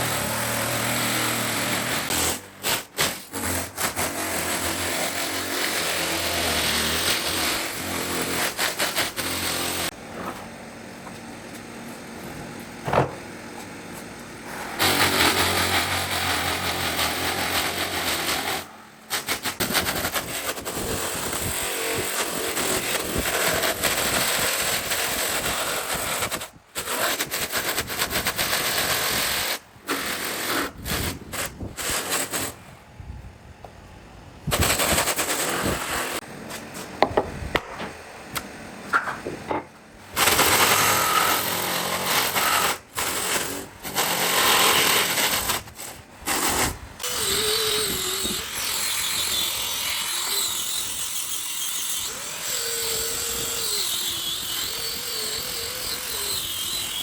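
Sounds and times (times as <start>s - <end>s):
power tools working wood: 0.0s - 32.8s, 34.4s - 57.0s.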